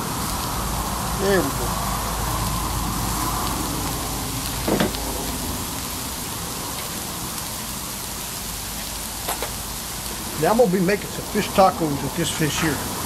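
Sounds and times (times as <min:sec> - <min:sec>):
fish sizzling on griddle: 0:00.0 - 0:13.0.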